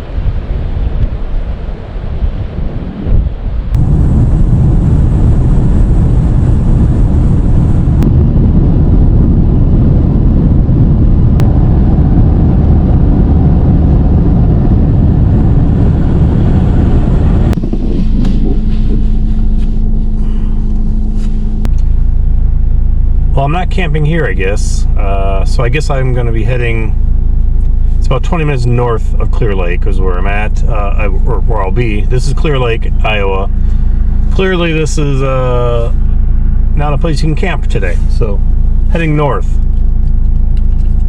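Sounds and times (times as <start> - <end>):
engine hum: 0.0 - 41.0
road and wind rumble: 0.0 - 41.0.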